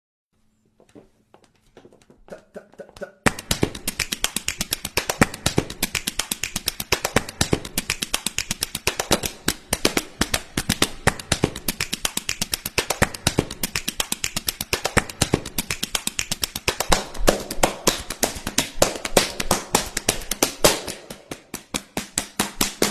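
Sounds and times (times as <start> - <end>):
rapid sharp clicks: 2.8 - 22.9.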